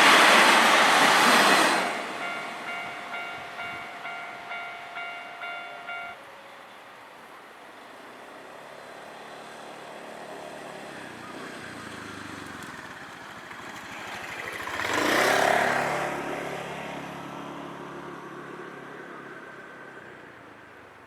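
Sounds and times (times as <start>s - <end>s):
road vehicle passing: 0.0s - 20.6s.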